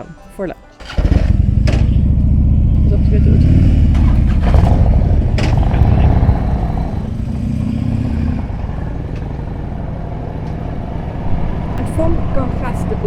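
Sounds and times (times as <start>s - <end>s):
motorcycle engine running: 0.8s - 13.0s.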